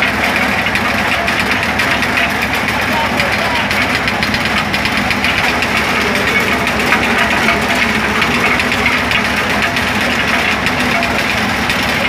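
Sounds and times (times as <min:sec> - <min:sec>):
corn sheller knocking: 0:00.0 - 0:12.0.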